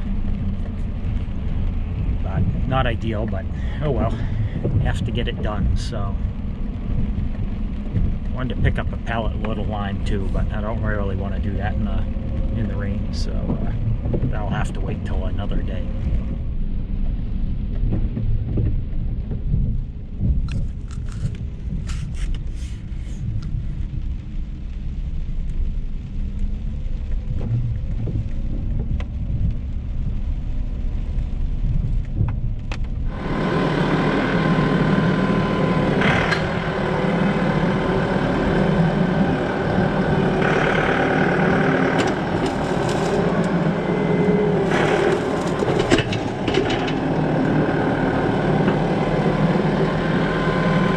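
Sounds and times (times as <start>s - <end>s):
tractor engine running: 0.0s - 23.5s, 31.4s - 50.9s.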